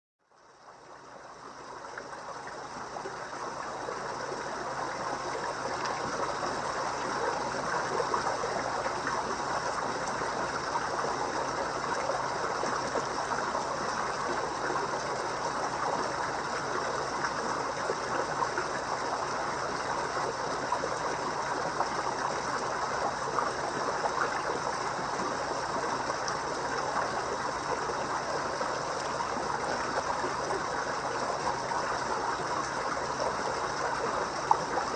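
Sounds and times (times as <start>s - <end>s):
pond water trickling: 0.3s - 34.9s.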